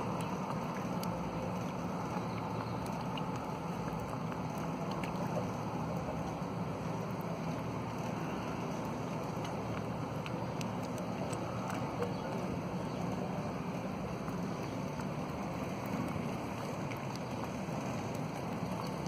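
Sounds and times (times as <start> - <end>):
faint ticks: 0.1 - 13.2, 13.8 - 19.0.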